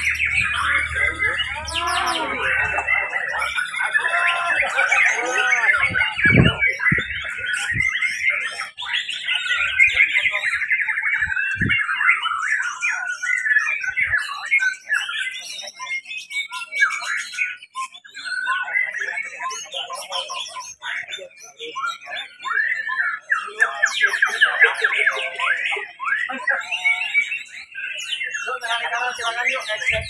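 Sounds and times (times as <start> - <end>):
birds singing whistled phrases: 0.0 - 30.0.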